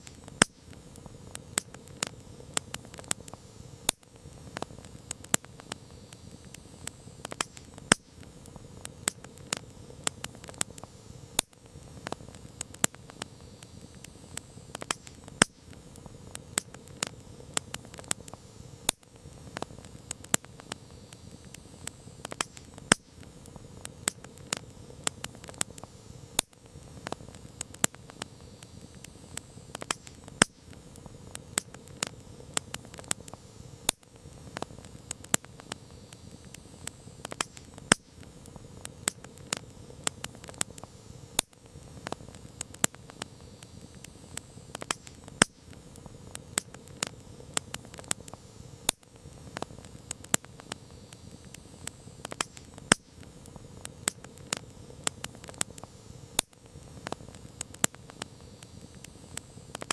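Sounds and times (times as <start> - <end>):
campfire crackling and popping: 0.0 - 59.9
low rush of flames: 0.0 - 59.9.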